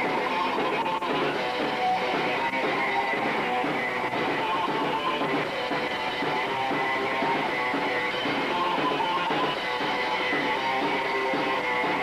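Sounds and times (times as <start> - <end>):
punk band playing live: 0.0 - 12.0.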